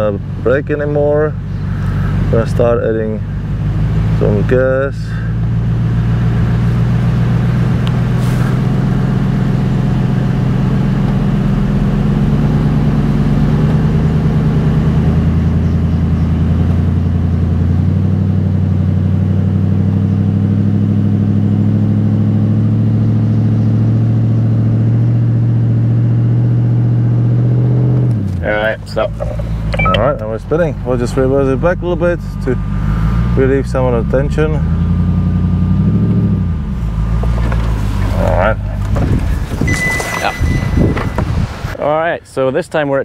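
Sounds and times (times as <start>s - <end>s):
engine straining under load: 0.0s - 41.9s.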